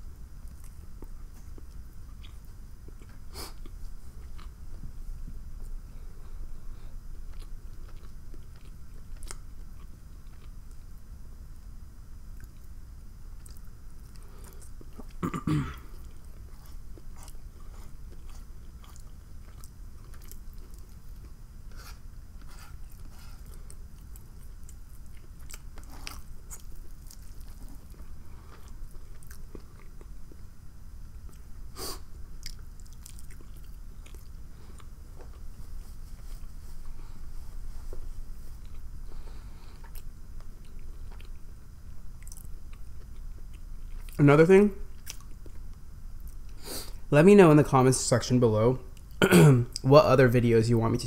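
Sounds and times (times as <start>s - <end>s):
person chewing food: 0.4s - 11.0s, 13.4s - 30.5s, 31.1s - 44.2s, 44.9s - 47.0s.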